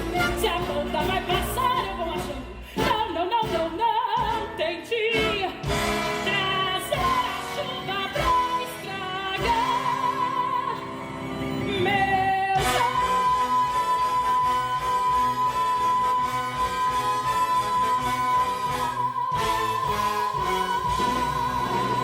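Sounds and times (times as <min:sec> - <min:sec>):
band accompaniment: 0:00.0 - 0:22.0.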